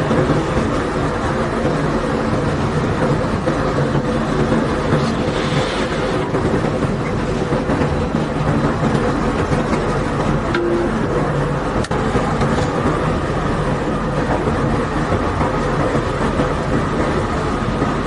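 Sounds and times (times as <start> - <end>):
constant rumble: 0.0 - 18.0
heavy machinery engine hum: 0.0 - 18.0.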